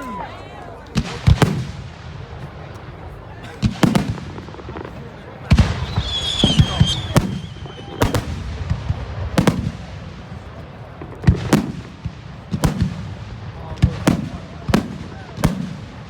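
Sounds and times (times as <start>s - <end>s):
fireworks bangs: 0.9s - 16.0s.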